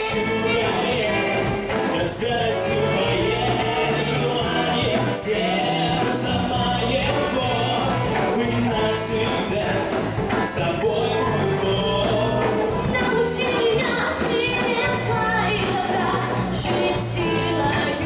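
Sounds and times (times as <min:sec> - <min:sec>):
live rock band playing: 0:00.0 - 0:18.0
steady drum beat: 0:00.0 - 0:18.0.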